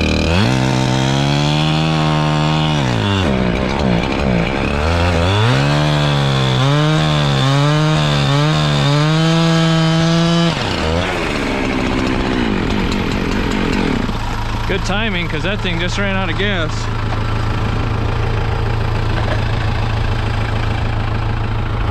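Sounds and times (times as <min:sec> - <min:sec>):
lower steady engine sound: 0:00.0 - 0:21.9
small engine working under load: 0:00.0 - 0:21.9.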